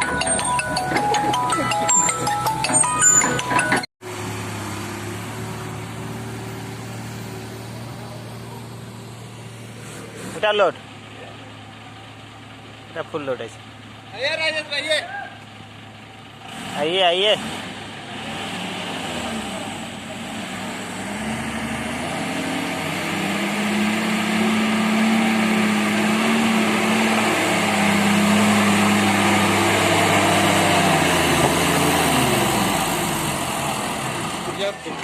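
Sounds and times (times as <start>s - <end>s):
vehicle engine revving under strain: 0.0s - 14.1s, 15.4s - 35.0s.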